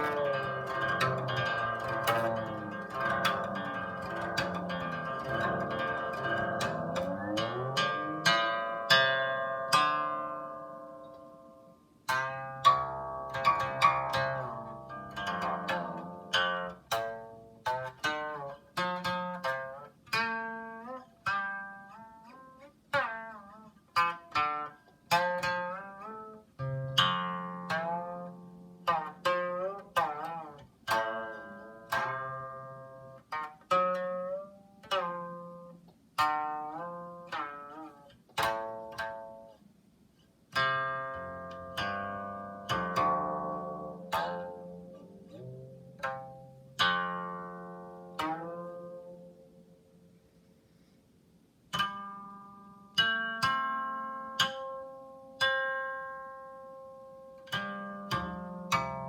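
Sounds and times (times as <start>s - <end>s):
plucked zither notes: 0.0s - 39.7s, 40.5s - 50.1s, 51.7s - 59.0s.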